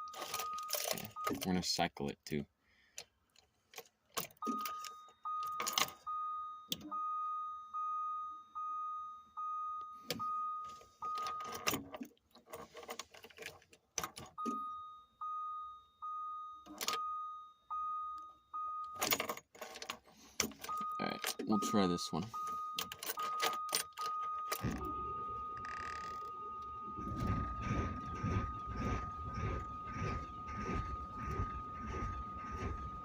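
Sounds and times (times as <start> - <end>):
dashboard warning chime beeping: 0.0 - 2.1, 4.4 - 11.8, 14.2 - 19.3, 20.6 - 33.0.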